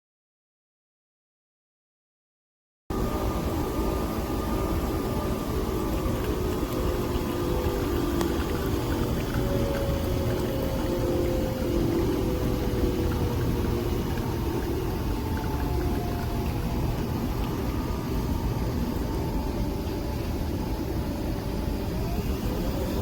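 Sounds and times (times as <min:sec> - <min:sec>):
coffee machine motor whirring: 0:02.9 - 0:23.0.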